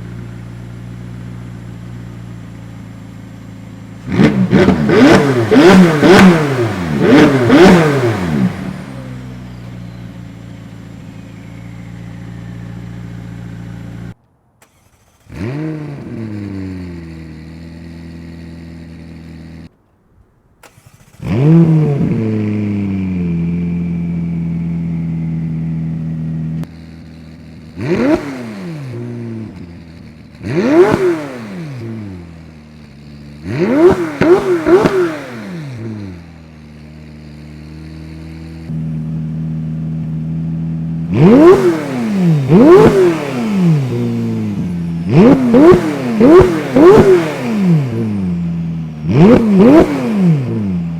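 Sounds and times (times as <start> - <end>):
car engine revving and idling: 0.0 - 19.8, 20.6 - 50.9.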